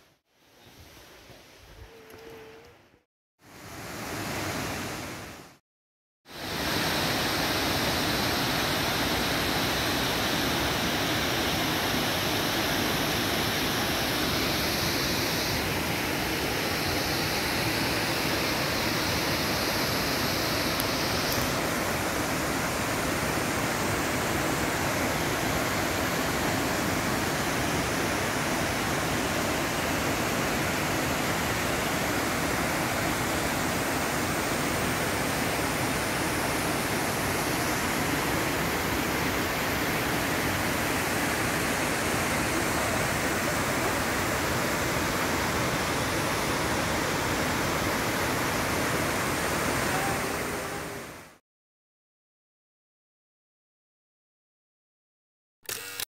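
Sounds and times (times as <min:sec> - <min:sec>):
waterfall rushing: 0:06.3 - 0:51.4.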